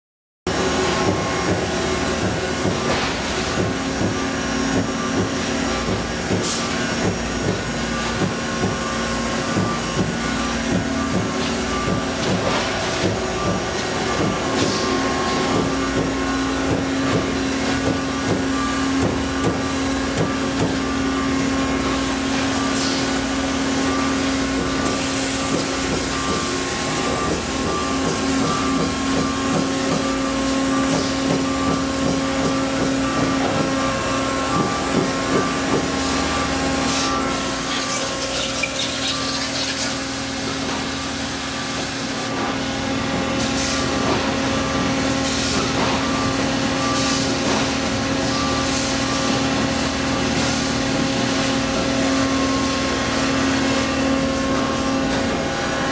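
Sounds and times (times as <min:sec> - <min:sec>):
punching machinery hum and whine: 0:00.5 - 0:55.9.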